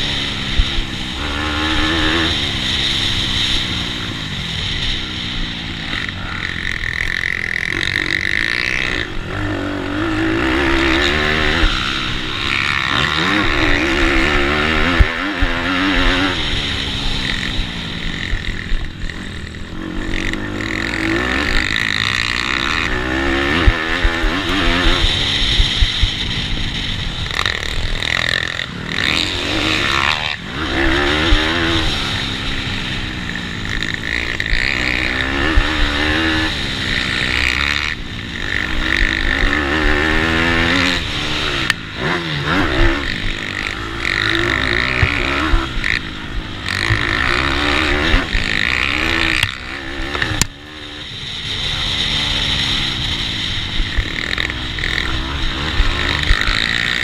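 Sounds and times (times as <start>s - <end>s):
pitbike engine racing: 0.0s - 57.0s.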